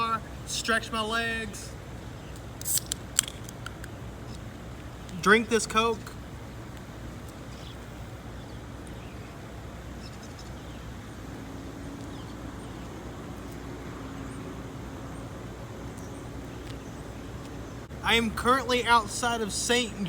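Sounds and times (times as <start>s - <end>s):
faint hum: 0.0s - 20.0s
low rumble of vehicles: 0.0s - 20.0s.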